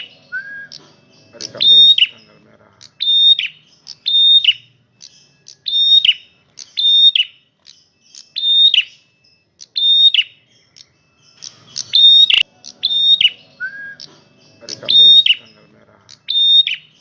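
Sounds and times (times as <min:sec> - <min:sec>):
bird calling loudly: 0:00.0 - 0:17.0.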